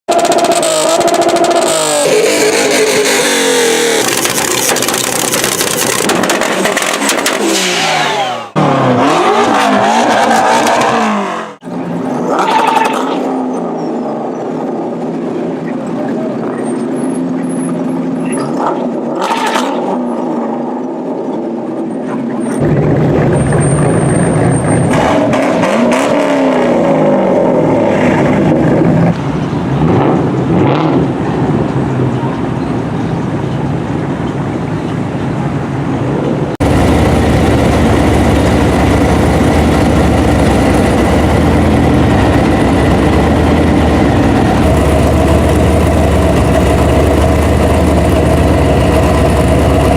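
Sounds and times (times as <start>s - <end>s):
car engines revving: 0.1s - 49.9s
loud steady engine rumble: 0.1s - 49.9s.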